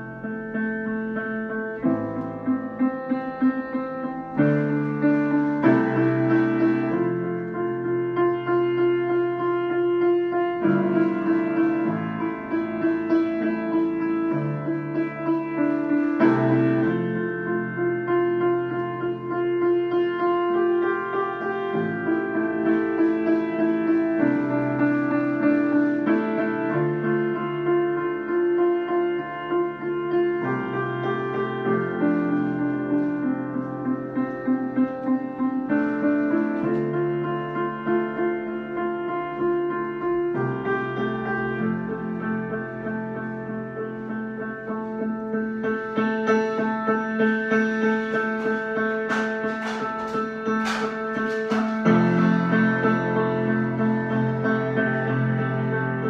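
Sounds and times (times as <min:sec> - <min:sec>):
solo piano: 0:00.0 - 0:56.0.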